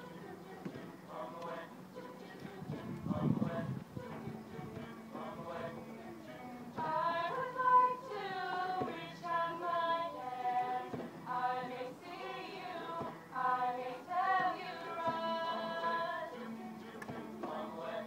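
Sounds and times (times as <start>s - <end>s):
group of women singing: 0.0s - 18.0s.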